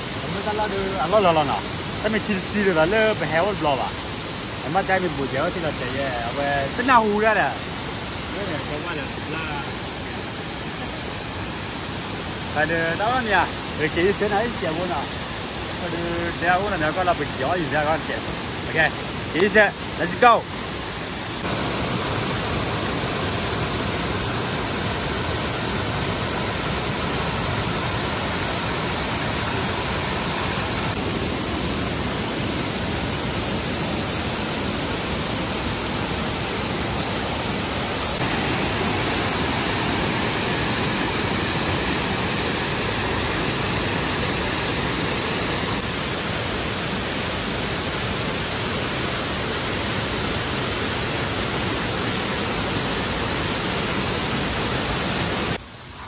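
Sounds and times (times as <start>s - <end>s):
loud steady hiss: 0.0s - 56.0s.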